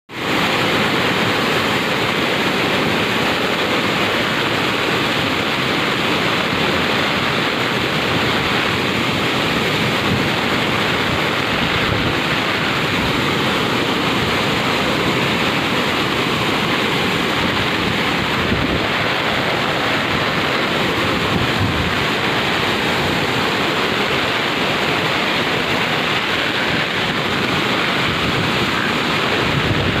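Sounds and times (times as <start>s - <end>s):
rushing floodwater roar: 0.1s - 30.0s.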